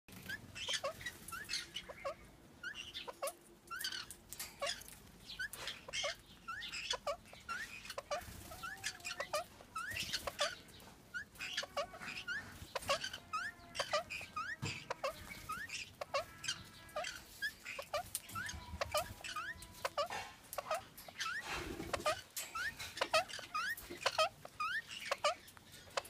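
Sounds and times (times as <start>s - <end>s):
parrots chirping: 0.1s - 26.0s.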